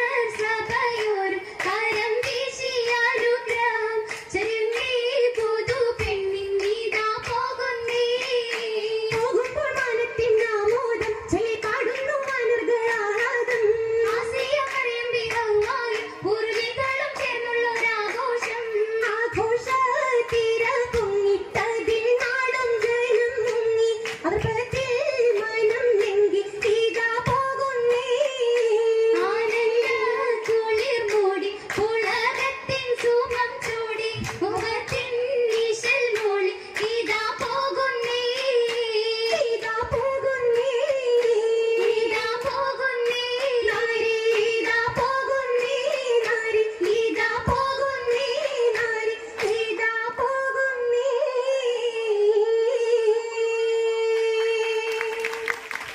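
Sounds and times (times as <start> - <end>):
hand claps: 0.0 - 50.4, 54.3 - 55.9
girls singing in unison: 0.0 - 55.9.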